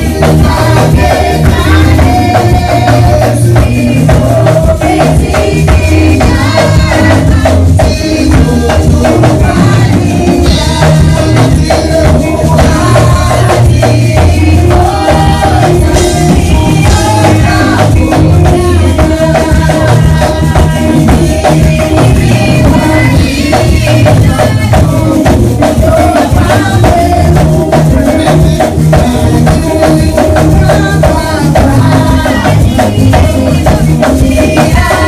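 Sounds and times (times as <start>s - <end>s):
drums: 0.0s - 35.0s
group singing a hymn: 0.0s - 35.0s
heavy bass: 0.0s - 35.0s
shaken percussion: 0.0s - 35.0s.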